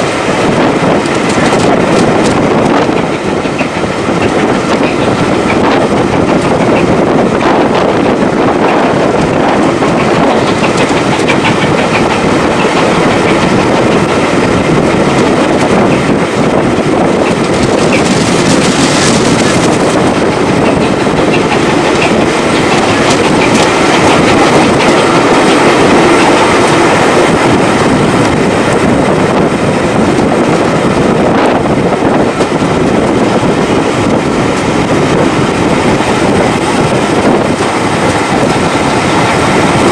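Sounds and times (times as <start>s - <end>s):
train wheels clicking over rails: 0.0s - 39.9s.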